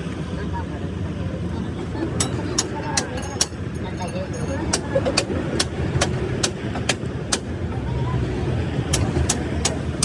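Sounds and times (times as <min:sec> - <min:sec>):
engine and traffic rumble: 0:00.0 - 0:10.0.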